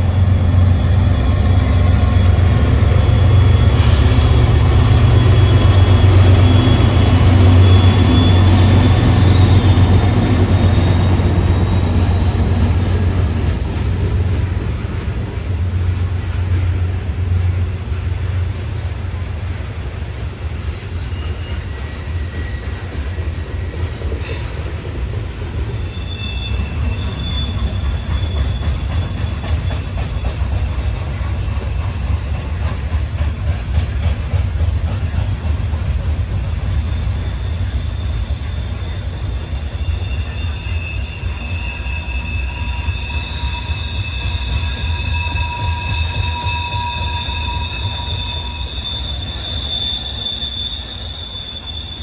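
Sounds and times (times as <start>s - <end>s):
diesel locomotive engine drone: 0.0s - 52.0s
train wheel squeals: 0.0s - 52.0s.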